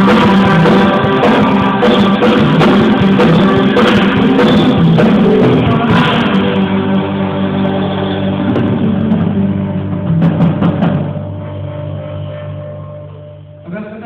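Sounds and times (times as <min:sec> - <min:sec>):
drums: 0:00.0 - 0:14.0
worship band playing: 0:00.0 - 0:14.0.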